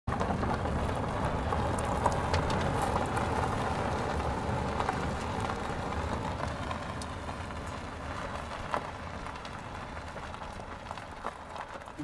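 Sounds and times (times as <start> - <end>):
faint crackles and ticks: 0.1 - 12.0.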